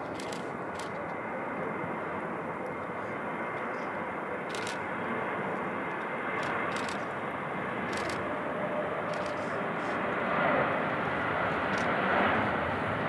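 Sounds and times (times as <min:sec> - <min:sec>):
jet engines rumbling with high whine: 0:00.0 - 0:13.0.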